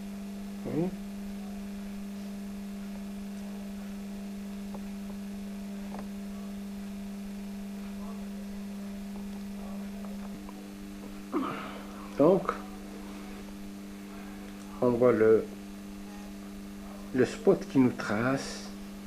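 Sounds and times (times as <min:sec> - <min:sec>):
higher electrical hum: 0:00.0 - 0:19.0
steady electrical hum: 0:00.0 - 0:19.0.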